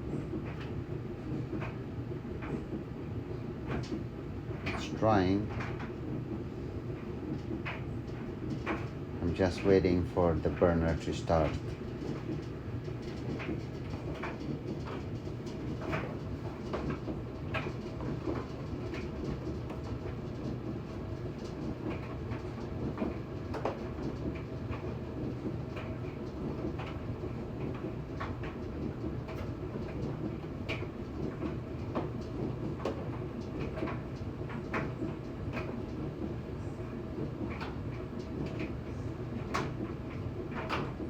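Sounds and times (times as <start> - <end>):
dryer drum rumbling: 0.0 - 41.0
clicks and knocks of tumbling: 7.2 - 41.0.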